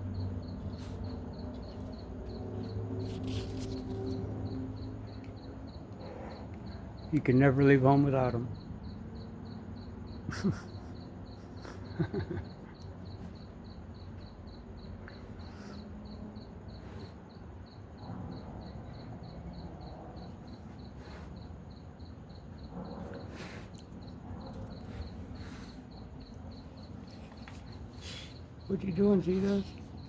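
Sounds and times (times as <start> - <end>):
crickets chirping: 0.0 - 30.0
low background hum: 0.0 - 30.0.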